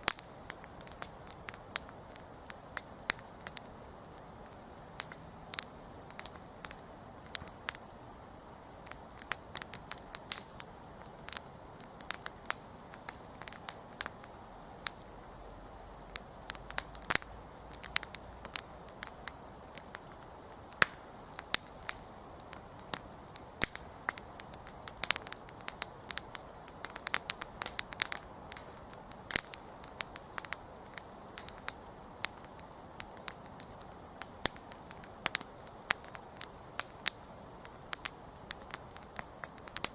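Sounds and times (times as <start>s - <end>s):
campfire crackling and popping: 0.0s - 39.9s
low hiss of flames: 0.0s - 39.9s.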